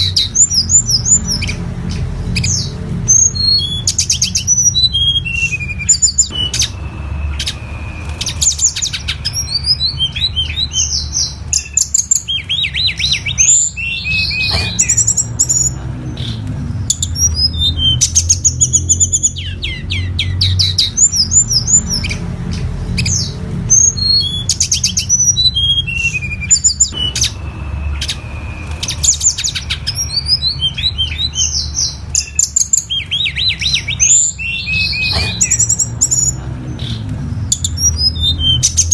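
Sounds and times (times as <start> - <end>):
songbird singing chirps and trills: 0.0 - 38.9.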